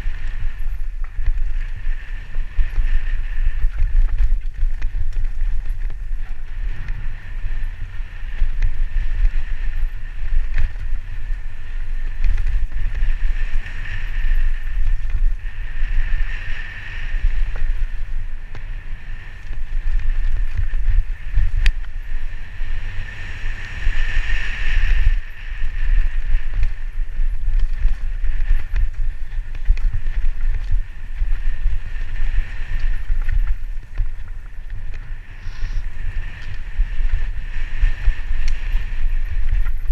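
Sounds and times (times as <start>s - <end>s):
mountain bike rattling on dirt trail: 0.0s - 39.9s
wind buffeting microphone: 0.0s - 39.9s.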